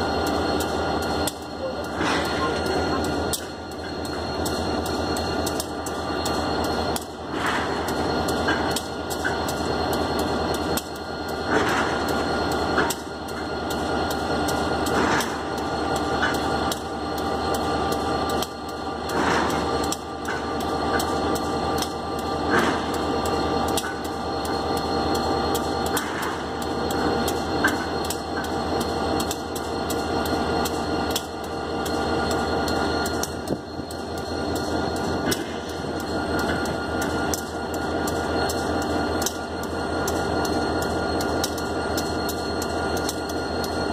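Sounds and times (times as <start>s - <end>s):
diesel locomotive idling: 0.0s - 43.9s.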